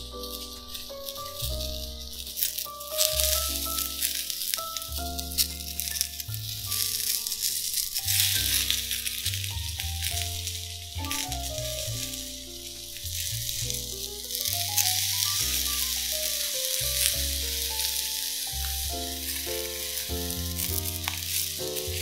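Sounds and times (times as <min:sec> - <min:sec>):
soft background music: 0:00.0 - 0:22.0
vegetables sizzling on grill pan: 0:03.1 - 0:22.0.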